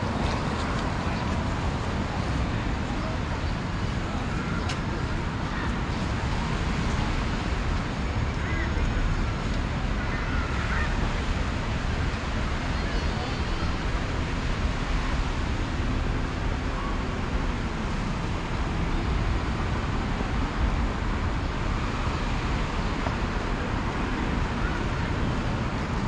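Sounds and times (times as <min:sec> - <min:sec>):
faint voices: 0:00.0 - 0:26.0
road traffic: 0:00.0 - 0:26.0
wind rumbling on microphone: 0:00.0 - 0:26.0.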